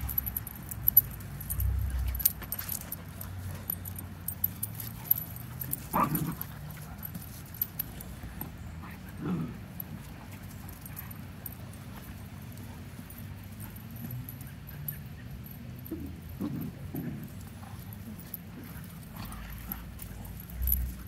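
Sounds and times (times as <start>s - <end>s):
puppies playing rough: 0.0s - 21.0s.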